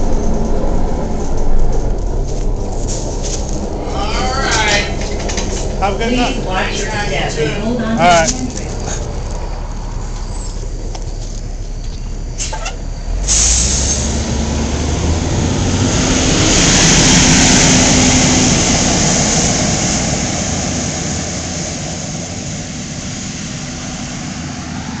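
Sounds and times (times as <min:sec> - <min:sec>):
diesel bus pulling away: 0:00.0 - 0:25.0.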